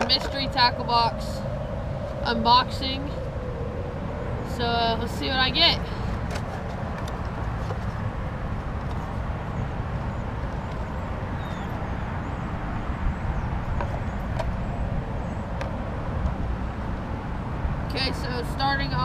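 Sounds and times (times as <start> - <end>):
highway traffic rumble: 0.0 - 19.0.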